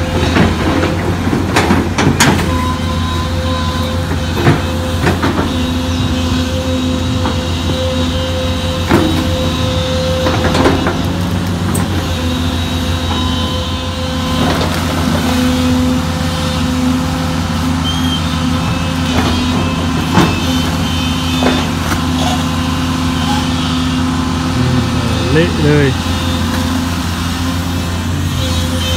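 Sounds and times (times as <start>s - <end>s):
excavator diesel engine droning: 0.0s - 28.9s.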